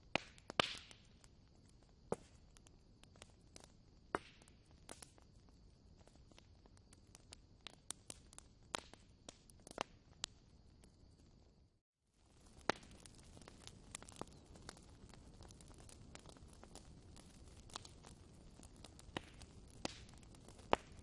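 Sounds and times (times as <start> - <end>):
wood fire crackling and popping: 0.0 - 11.6, 12.2 - 21.0.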